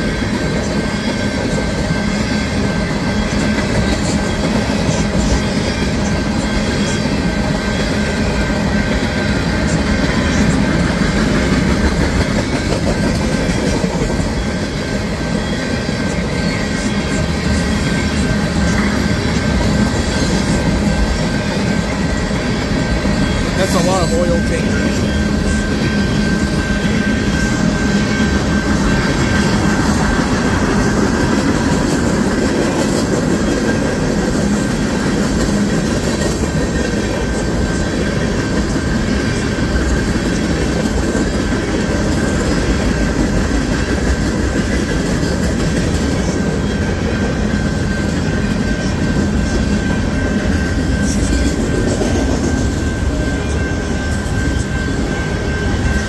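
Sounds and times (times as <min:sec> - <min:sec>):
freight train wheels clattering on rail: 0:00.0 - 0:56.0.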